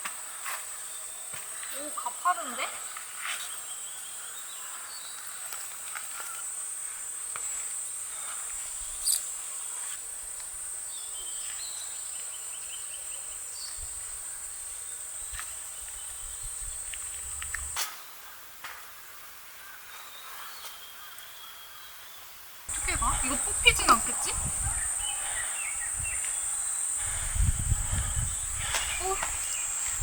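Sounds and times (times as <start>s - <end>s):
insects droning: 0.0s - 19.8s, 22.3s - 30.0s.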